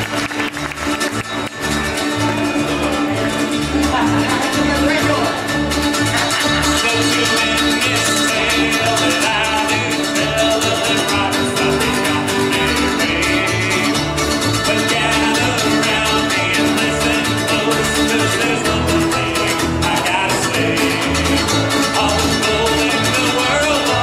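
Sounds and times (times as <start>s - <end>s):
bluegrass band playing: 0.0s - 24.0s
upright bass steady beat: 0.0s - 24.0s.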